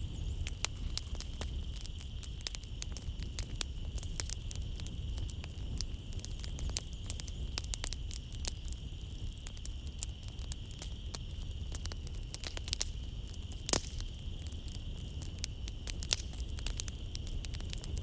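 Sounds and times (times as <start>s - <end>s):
crickets trilling: 0.0s - 18.0s
wood fire crackling: 0.0s - 18.0s.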